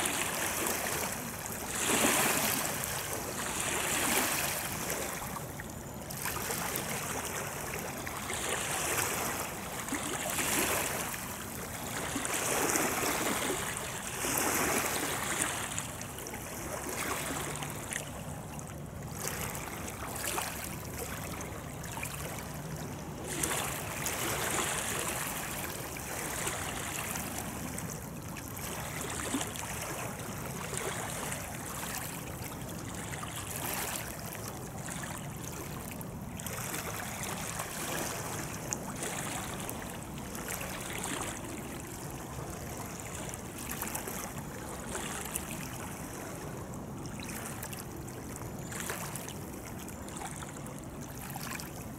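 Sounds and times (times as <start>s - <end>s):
river water lapping and splashing: 0.0s - 51.9s.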